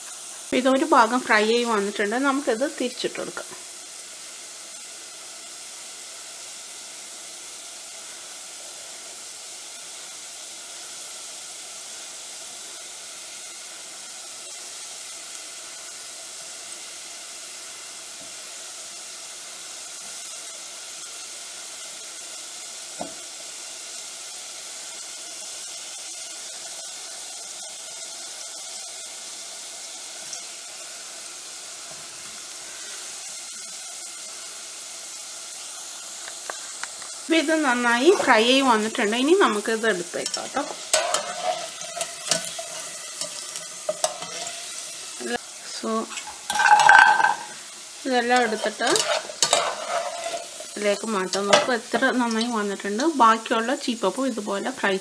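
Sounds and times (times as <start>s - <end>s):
food frying in hot oil: 0.0s - 55.0s.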